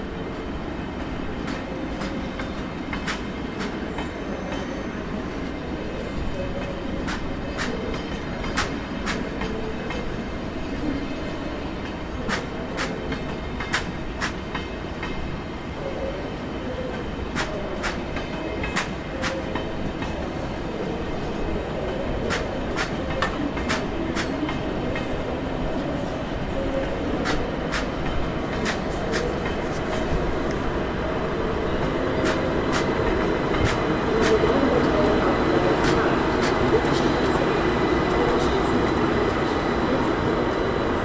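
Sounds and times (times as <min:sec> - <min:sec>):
train rumbling on tracks: 0:00.0 - 0:41.0.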